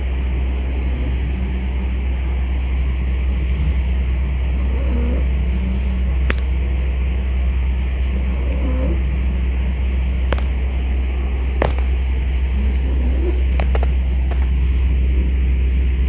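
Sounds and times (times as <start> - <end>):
puppy snoring: 0.0 - 15.2
low rumble: 0.0 - 16.0.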